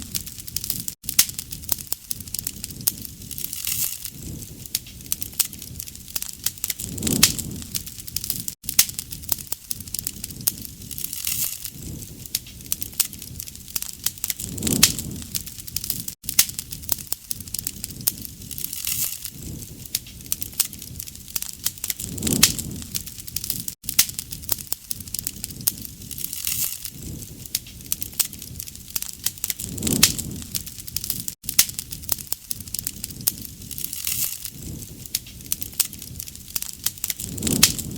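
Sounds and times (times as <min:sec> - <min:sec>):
low rush of flame: 0:00.0 - 0:37.9
wood fire crackling and popping: 0:00.0 - 0:37.9.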